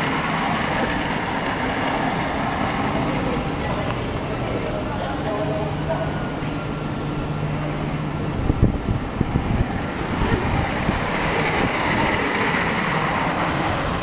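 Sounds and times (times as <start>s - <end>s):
low traffic hum: 0.0s - 14.0s
tyres hissing on wet road: 0.0s - 14.0s.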